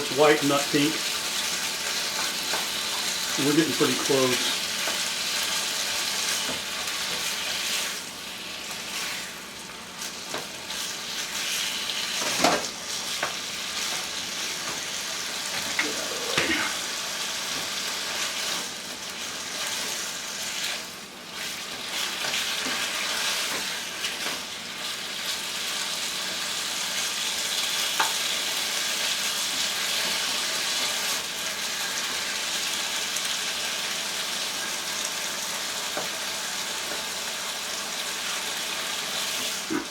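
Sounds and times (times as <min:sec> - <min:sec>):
chicken sizzling in oil: 0:00.0 - 0:39.9.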